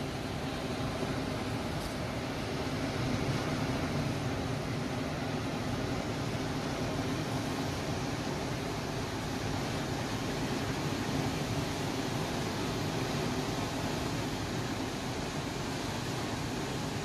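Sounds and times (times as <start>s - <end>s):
sea waves on rocky shore: 0.0s - 17.0s.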